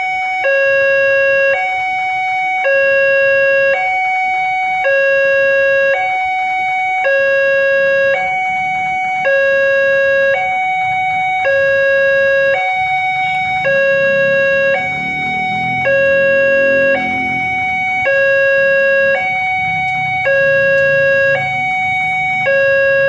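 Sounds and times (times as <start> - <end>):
two-tone crossing alarm chime: 0.0 - 23.0.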